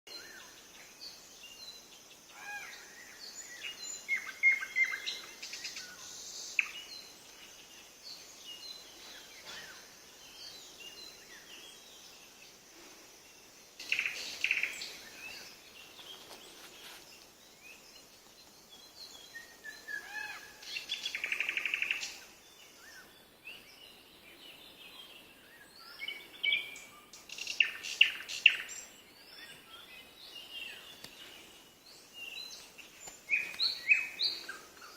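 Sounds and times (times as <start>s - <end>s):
songbirds chirping and whistling: 0.1s - 34.9s.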